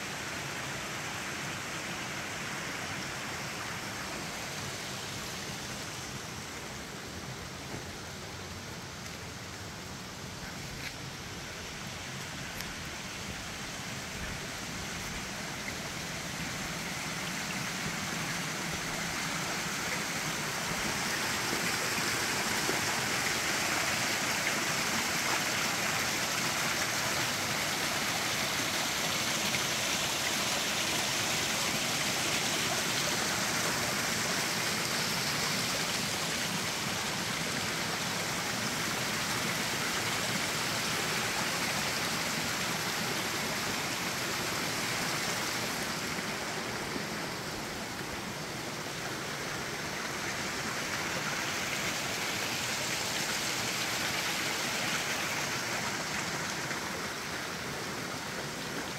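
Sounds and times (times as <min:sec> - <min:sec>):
waterfall and creek rushing: 0:00.0 - 0:58.9.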